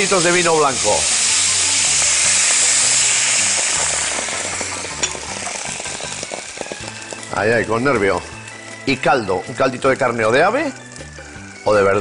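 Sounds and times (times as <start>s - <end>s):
wine sizzling in a hot pan: 0.0s - 12.0s.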